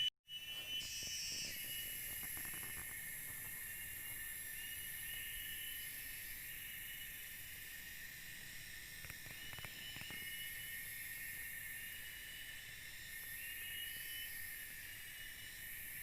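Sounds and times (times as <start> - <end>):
insects chorus: 0.3 - 16.0.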